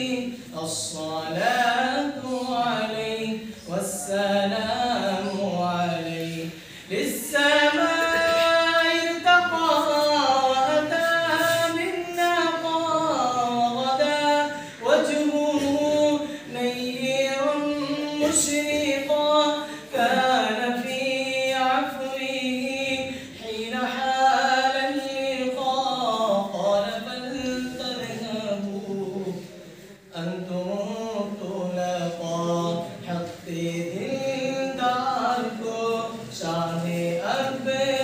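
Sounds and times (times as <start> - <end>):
man singing unaccompanied: 0.0 - 38.0.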